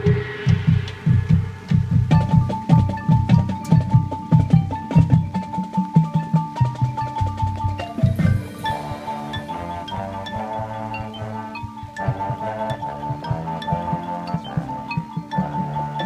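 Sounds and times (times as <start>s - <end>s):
steady drum pulse: 0.0s - 14.0s
mallet percussion notes: 0.0s - 16.0s
marching band music: 0.0s - 16.0s.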